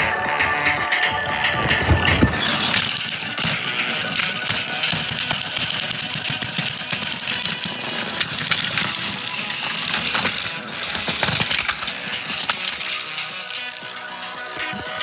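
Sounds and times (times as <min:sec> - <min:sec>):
toy train wheels rattling on plastic track: 0:00.9 - 0:15.0
toy train motors whirring: 0:01.7 - 0:15.0.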